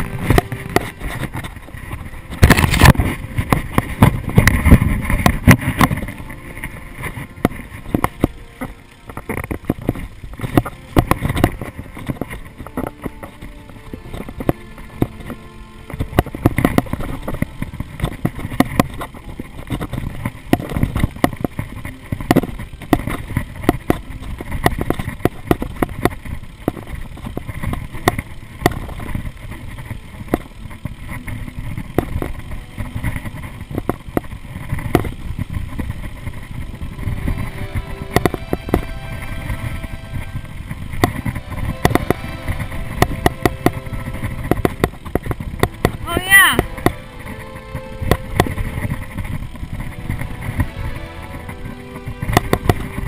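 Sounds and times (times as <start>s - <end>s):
bike rattling over bumps: 0.0s - 53.0s
bike tyres rumbling on stone: 0.0s - 53.0s
wind on microphone: 0.0s - 53.0s.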